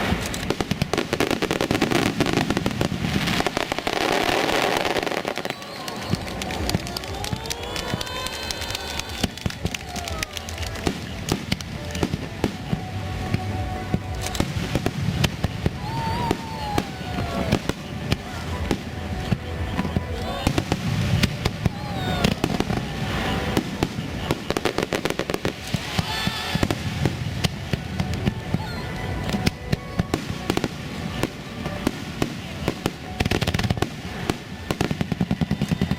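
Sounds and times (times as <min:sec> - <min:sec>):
fireworks booming rumble: 0:00.0 - 0:35.9
fireworks crackling pops: 0:00.0 - 0:35.9.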